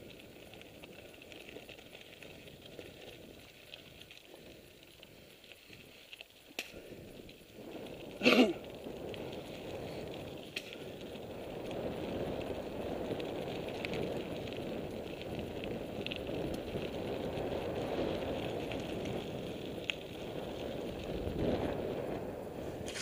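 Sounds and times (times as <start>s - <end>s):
bike clicks and rattles: 0.0s - 23.0s
bike tyre rumble on gravel: 0.0s - 23.0s.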